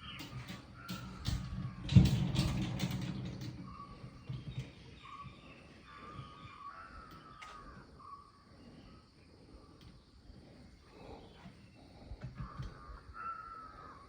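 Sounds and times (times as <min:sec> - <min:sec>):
small birds whistling: 0:00.0 - 0:14.0.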